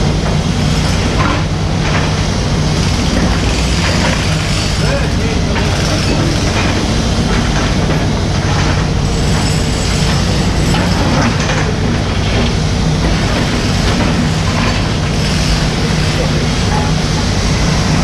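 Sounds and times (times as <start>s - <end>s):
excavator diesel engine running: 0.0s - 18.0s
machine clanks and scrapes: 0.0s - 18.0s.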